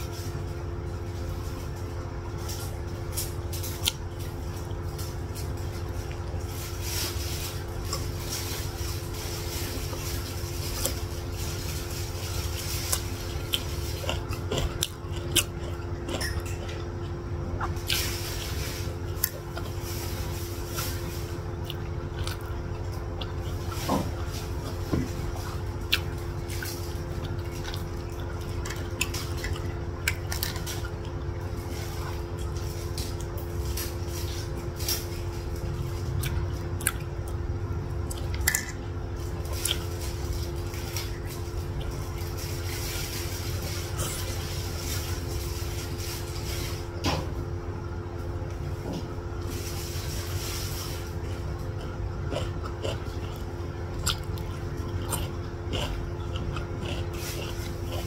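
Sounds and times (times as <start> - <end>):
biting and chewing food: 0.0 - 47.3, 48.5 - 58.0
steady low hum: 0.0 - 58.0.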